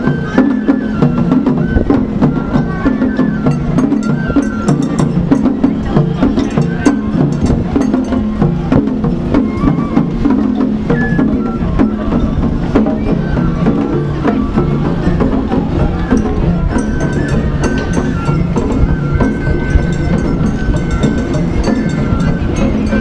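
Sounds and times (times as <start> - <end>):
festival parade music: 0.0 - 23.0
wood block clicking percussion: 0.3 - 23.0.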